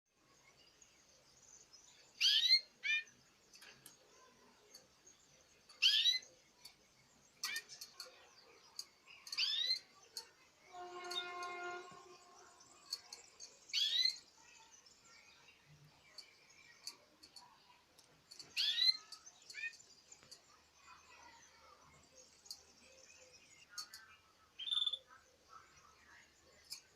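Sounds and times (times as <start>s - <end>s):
faint bird chirping: 0.1s - 26.9s.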